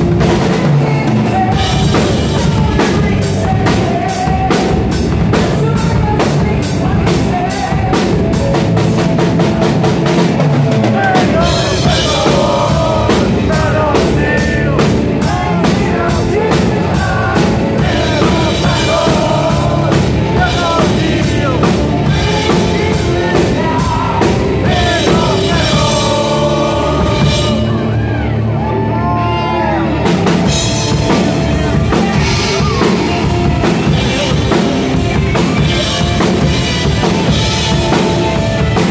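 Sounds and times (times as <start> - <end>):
man singing: 0.0 - 9.2, 10.7 - 27.7, 31.0 - 37.7
live metal band playing: 0.0 - 38.9.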